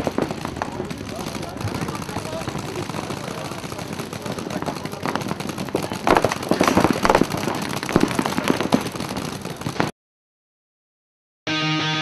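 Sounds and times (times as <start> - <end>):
paintball markers firing: 0.0 - 9.9.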